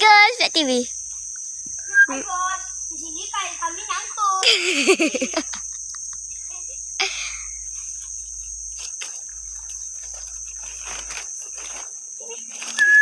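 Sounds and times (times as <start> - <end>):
high insect chorus: 0.0 - 13.0.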